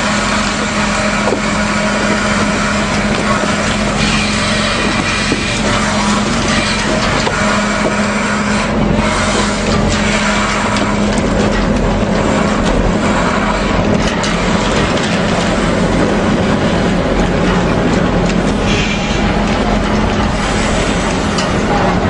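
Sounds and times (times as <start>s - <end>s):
engines and machinery droning: 0.0s - 22.0s.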